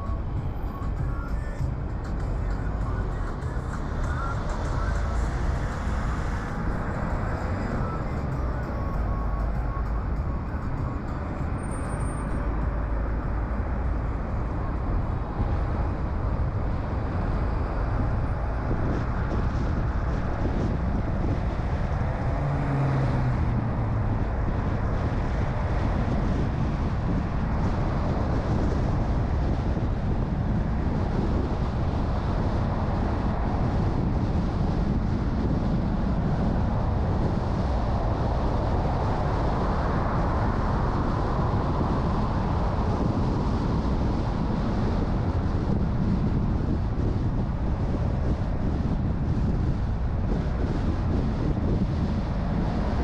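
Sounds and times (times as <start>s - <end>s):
car engine and tyre rumble: 0.0s - 53.0s
wind noise: 0.0s - 53.0s.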